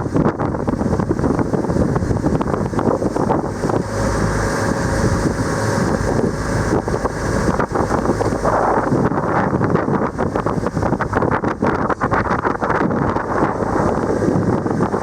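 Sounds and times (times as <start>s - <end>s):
boat engine rumbling: 0.0s - 15.0s
water rushing past hull: 0.0s - 15.0s
wind buffeting microphone: 0.0s - 15.0s.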